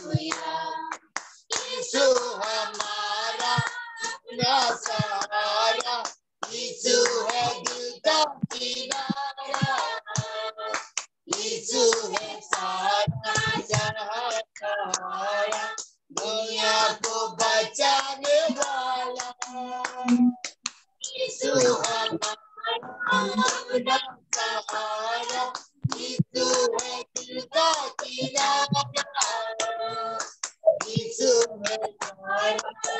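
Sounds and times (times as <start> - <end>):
women singing a hymn: 0.0 - 20.3, 21.0 - 32.9
hands clapping: 0.0 - 22.4, 23.1 - 32.9.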